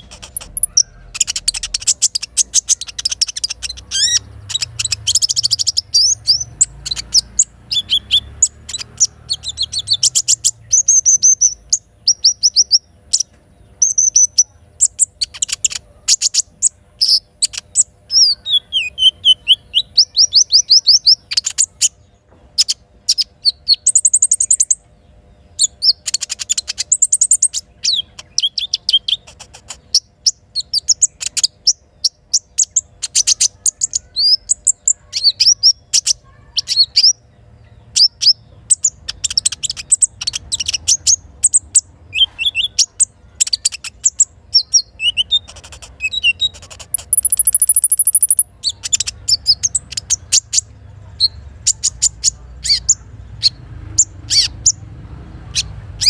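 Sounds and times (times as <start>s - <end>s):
bird chirping and trilling: 0.0s - 56.0s.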